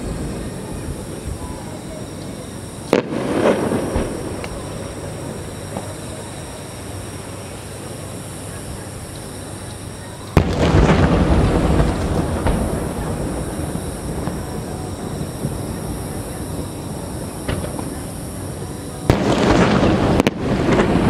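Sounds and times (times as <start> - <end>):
fireworks rumble: 0.0 - 21.0
fireworks shells bursting: 0.0 - 21.0.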